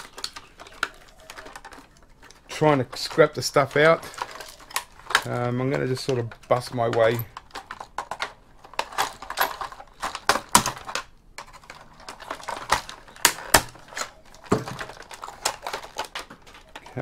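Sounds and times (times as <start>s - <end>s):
plastic housing cracking apart: 0.0s - 17.0s.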